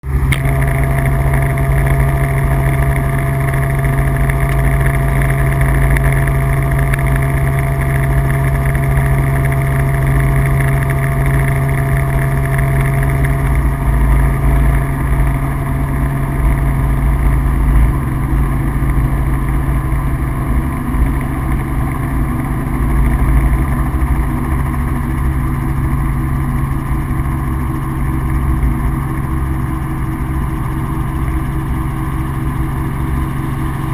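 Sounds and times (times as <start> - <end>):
helicopter engine and rotors: 0.0 - 33.9.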